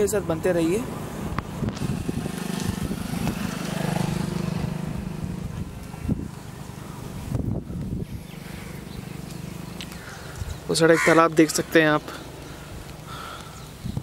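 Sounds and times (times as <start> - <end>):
motor vehicle passing: 0.0 - 13.6.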